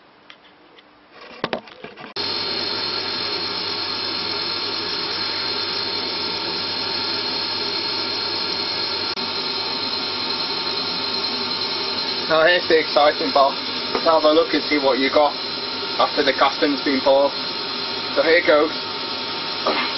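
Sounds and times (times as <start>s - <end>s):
extractor fan running: 2.2s - 19.9s.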